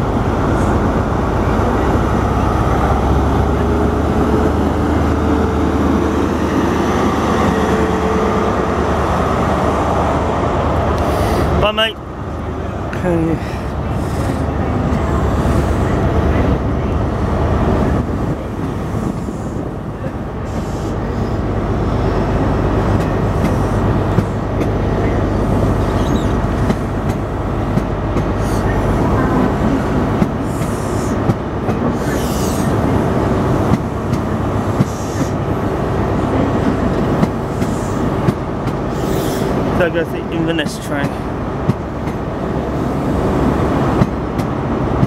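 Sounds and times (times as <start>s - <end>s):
diesel engine hum: 0.0s - 45.0s
train coaches rumbling past: 0.0s - 45.0s.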